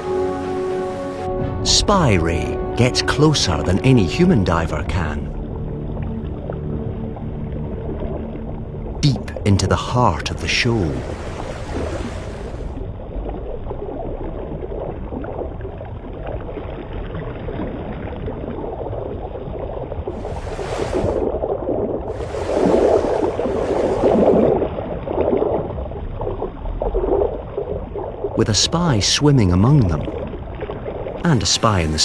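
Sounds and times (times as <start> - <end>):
underwater rushing and gurgling: 0.0 - 32.0.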